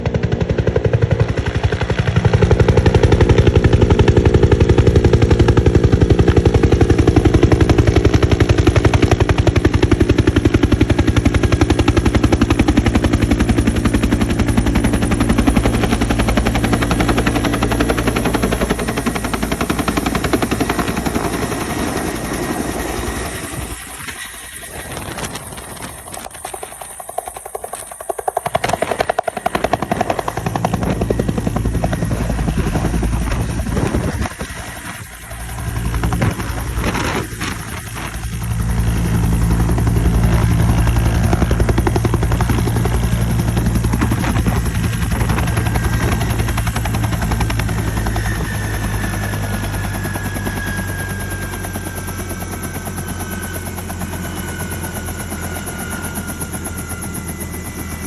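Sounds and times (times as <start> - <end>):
helicopter rotor beating: 0.0 - 58.0.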